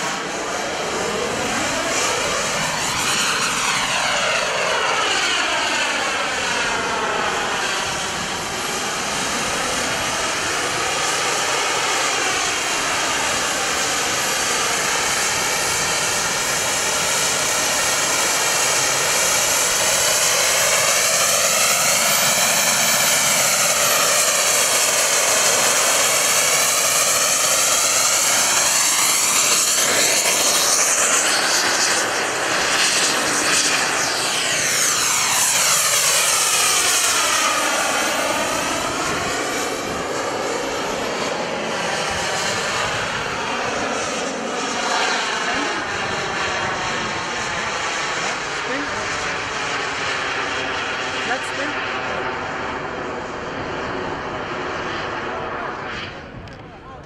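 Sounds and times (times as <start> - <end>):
model jet turbine engines: 0.0 - 57.0.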